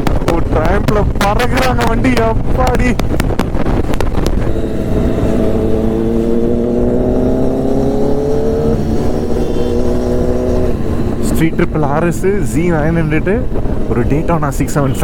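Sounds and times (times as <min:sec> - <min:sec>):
motorcycle engine accelerating: 0:00.0 - 0:14.6.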